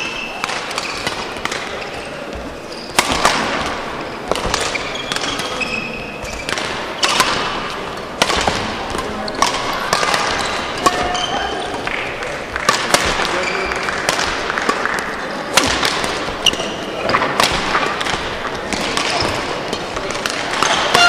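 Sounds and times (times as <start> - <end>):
racket striking shuttlecock: 0.0 - 1.8, 2.9 - 5.6, 6.3 - 11.9, 12.5 - 21.0
shoes squeaking on court floor: 0.0 - 12.2, 13.0 - 14.0, 14.6 - 21.0.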